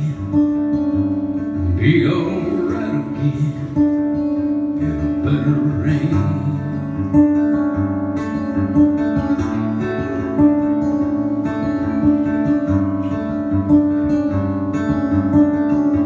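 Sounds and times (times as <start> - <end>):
acoustic guitar country ballad: 0.0 - 16.0.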